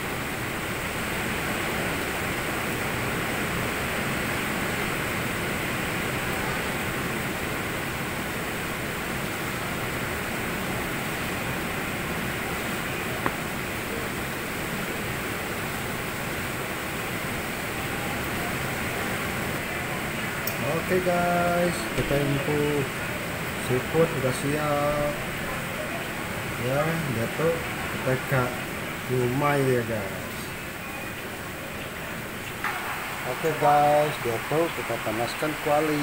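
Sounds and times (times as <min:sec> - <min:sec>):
steady background hiss: 0:00.0 - 0:36.0.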